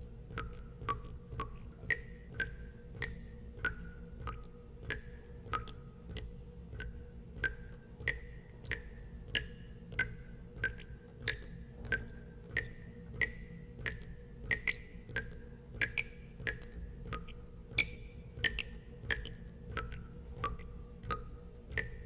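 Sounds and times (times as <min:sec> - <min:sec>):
low steady hum: 0:00.0 - 0:22.0
water drops plinking into water: 0:00.3 - 0:22.0.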